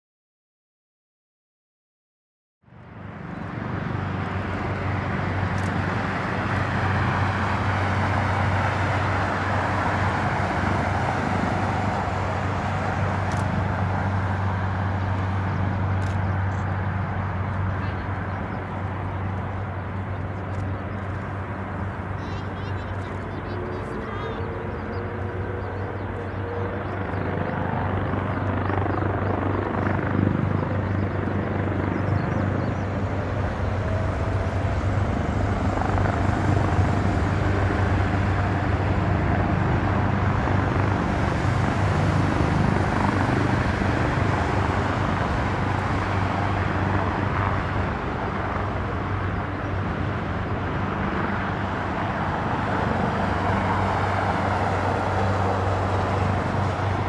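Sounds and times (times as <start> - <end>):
jet engines rumbling with whine: 2.6 - 57.0.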